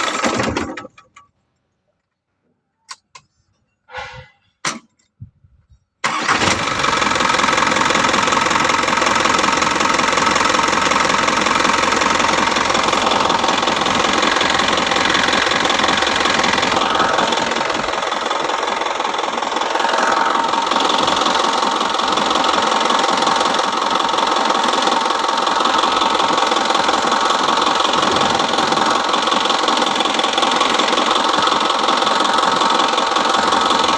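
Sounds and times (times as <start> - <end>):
dump truck engine running: 6.1 - 33.9.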